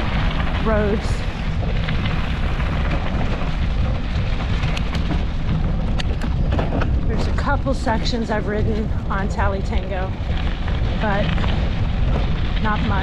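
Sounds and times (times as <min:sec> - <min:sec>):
bike rattling: 0:00.0 - 0:13.0
wind rumbling on microphone: 0:00.0 - 0:13.0.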